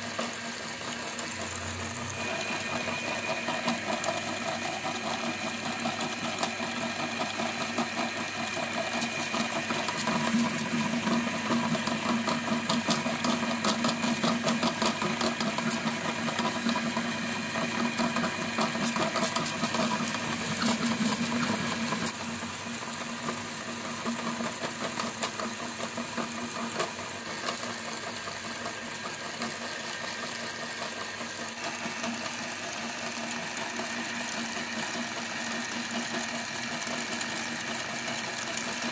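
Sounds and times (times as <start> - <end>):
meat grinder motor running: 0.0 - 38.9.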